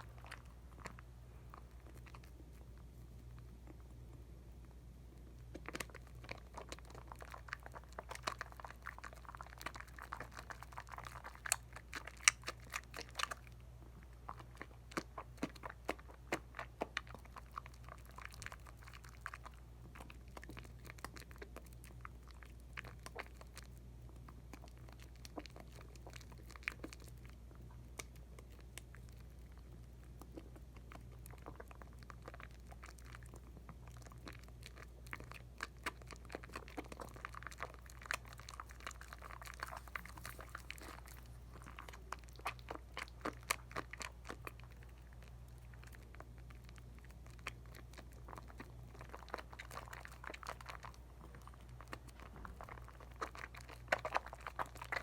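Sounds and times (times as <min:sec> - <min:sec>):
faint low hum: 0:00.0 - 0:55.0
soap lather crackling and squishing: 0:00.0 - 0:55.0.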